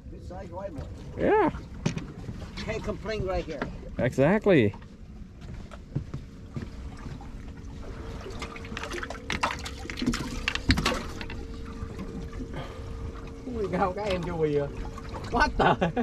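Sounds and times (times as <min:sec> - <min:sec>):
faint steady hum: 0:00.0 - 0:16.0
water trickling and splashing: 0:00.2 - 0:05.8, 0:06.5 - 0:16.0.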